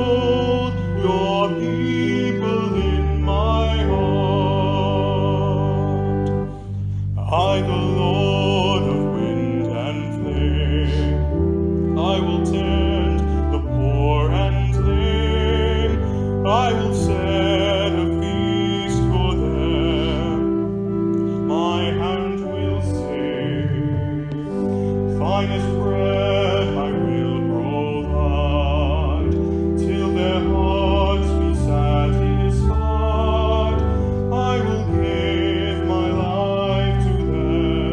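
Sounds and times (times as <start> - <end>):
person singing with vibrato: 0.0 - 6.5, 7.1 - 20.6, 21.3 - 37.9.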